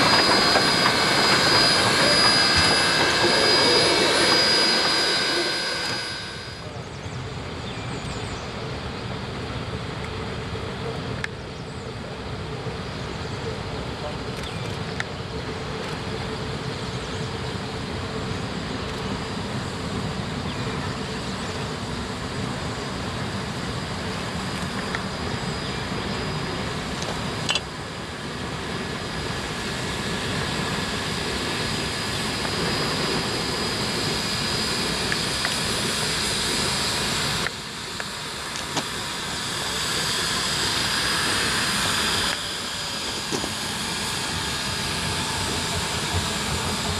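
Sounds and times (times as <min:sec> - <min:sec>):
steam locomotives passing: 0:00.0 - 0:46.9.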